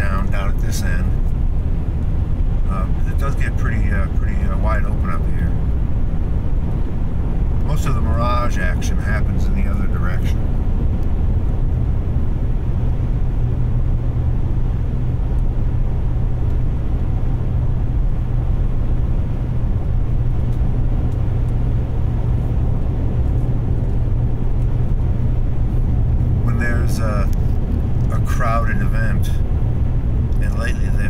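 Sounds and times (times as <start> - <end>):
constant low hum: 0.0 - 31.0
vehicle engine and tyre rumble: 0.0 - 31.0.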